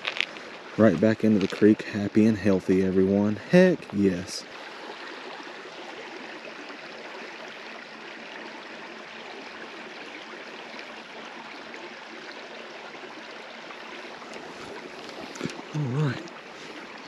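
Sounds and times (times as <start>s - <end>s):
creek running over rocks: 0.0s - 17.0s.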